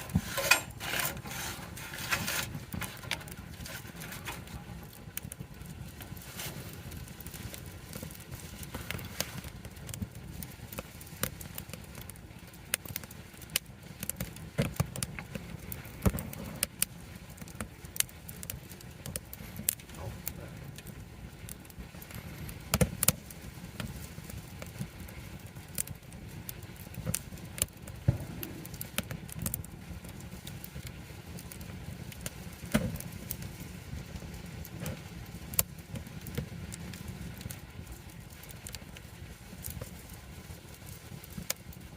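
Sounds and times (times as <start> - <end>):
burning wood popping: 0.0 - 41.9
campfire crackling: 0.0 - 41.9.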